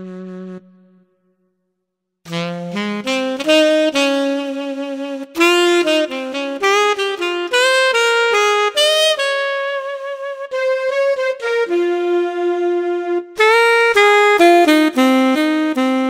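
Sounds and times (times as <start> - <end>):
keyboard saxophone melody: 0.0 - 1.3, 2.3 - 16.0.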